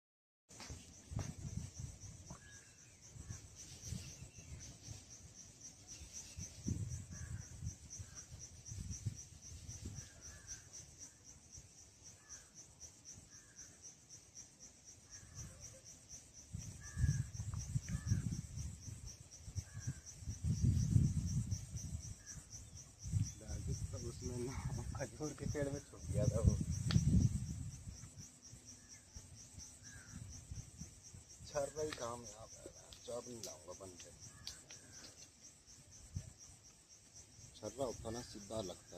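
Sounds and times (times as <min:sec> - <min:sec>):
cricket trilling: 0:00.5 - 0:38.9.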